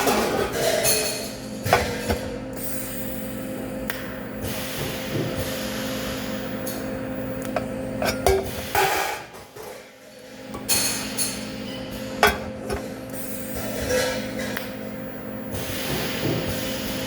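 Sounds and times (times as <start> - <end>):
welding arc humming and hissing: 0.0 - 17.0.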